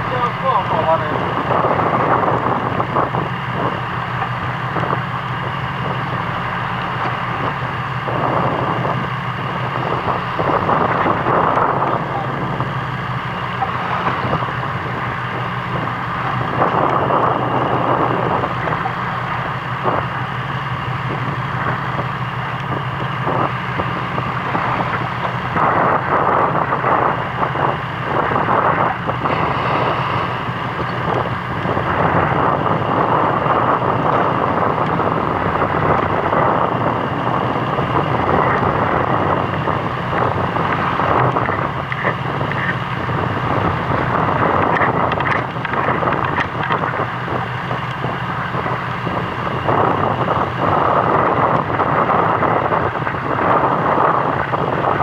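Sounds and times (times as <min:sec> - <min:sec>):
boat engine humming: 0:00.0 - 0:55.0
wind noise on microphone: 0:00.0 - 0:55.0.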